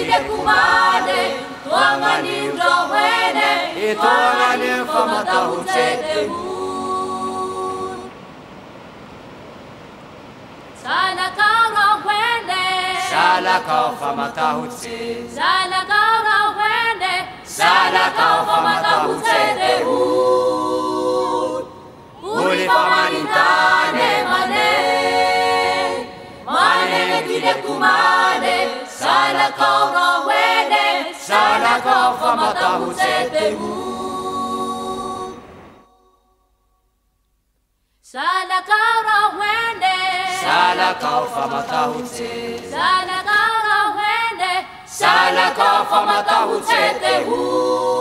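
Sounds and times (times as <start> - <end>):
vocal group singing in harmony: 0.0 - 8.2, 10.8 - 36.3, 38.2 - 48.0.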